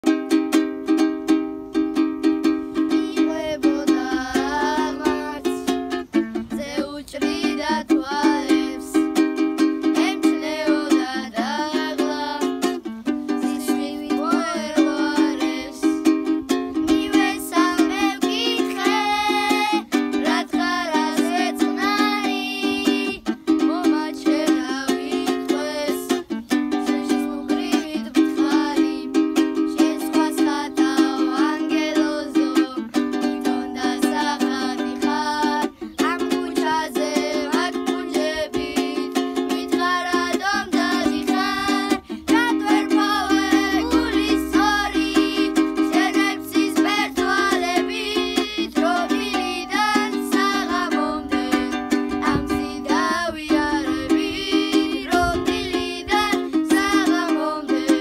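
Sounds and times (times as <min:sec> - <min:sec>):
lute strumming: 0:00.0 - 0:58.0
children singing: 0:02.8 - 0:58.0.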